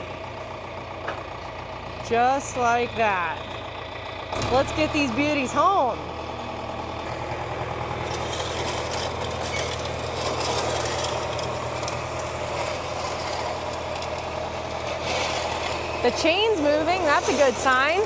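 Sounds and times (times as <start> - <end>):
planter rattling: 0.0 - 18.0
tractor engine running: 0.0 - 18.0.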